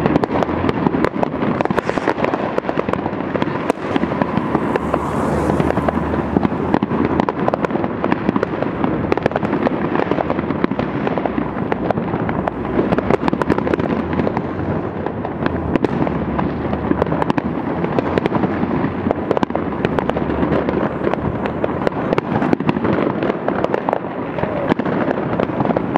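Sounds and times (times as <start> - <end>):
fireworks crackling and banging: 0.0 - 25.9.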